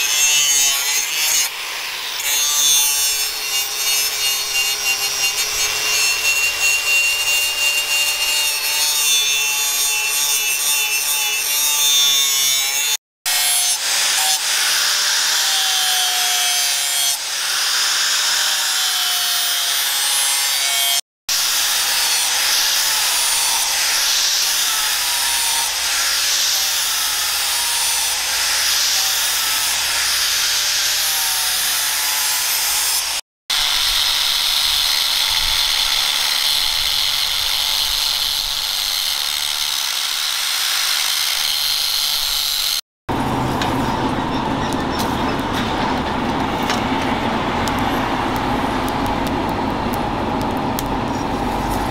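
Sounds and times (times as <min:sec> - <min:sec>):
angle grinder grinding steel: 0:00.0 - 0:50.0.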